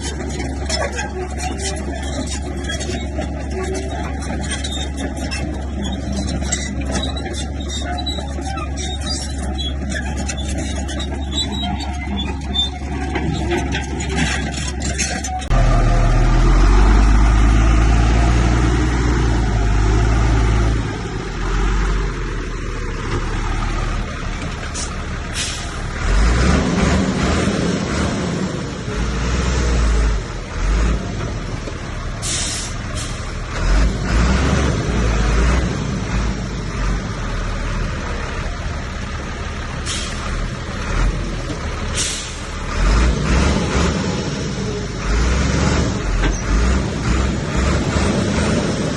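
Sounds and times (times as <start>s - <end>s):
diesel machinery engine rumble: 0.0s - 48.9s.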